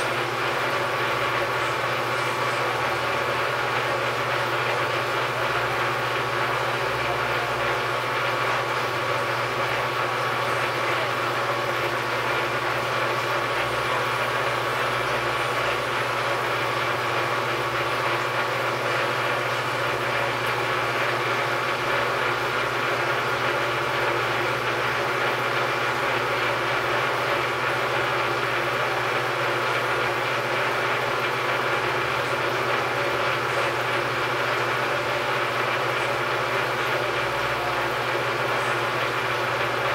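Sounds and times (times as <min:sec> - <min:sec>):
metal lathe motor droning: 0:00.0 - 0:39.9.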